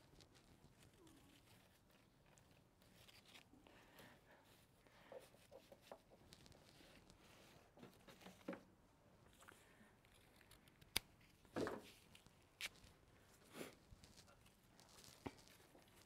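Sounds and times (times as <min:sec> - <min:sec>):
faint rustling of foliage: 0:00.0 - 0:08.6, 0:09.2 - 0:16.0.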